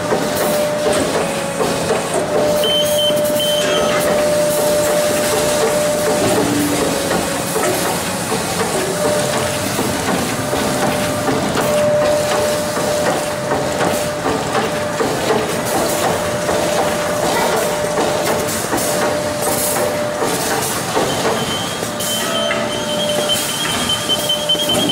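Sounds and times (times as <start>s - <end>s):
high machine whine: 0.0s - 24.9s.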